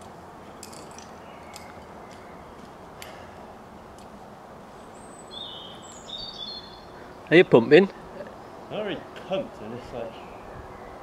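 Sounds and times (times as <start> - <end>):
outdoor air hiss: 0.0 - 11.0.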